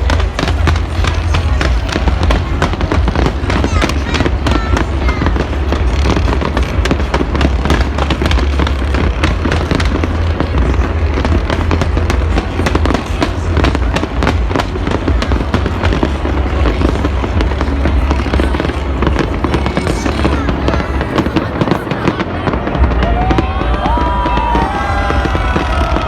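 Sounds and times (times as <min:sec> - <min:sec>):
fireworks bursting: 0:00.0 - 0:26.0
low rumble: 0:00.0 - 0:26.0.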